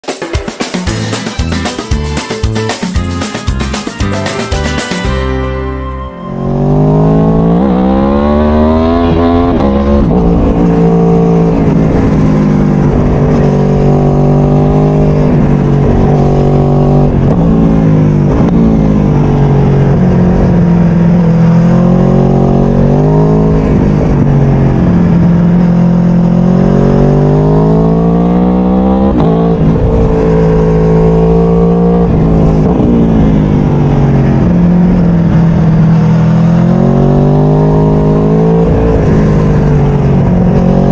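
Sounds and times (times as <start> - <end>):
motorcycle engine accelerating: 6.3 - 40.9.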